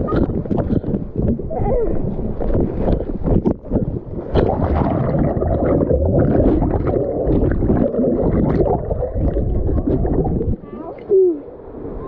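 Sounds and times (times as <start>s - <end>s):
water splashes: 0.0s - 11.4s
muffled pool water churning: 0.0s - 12.0s.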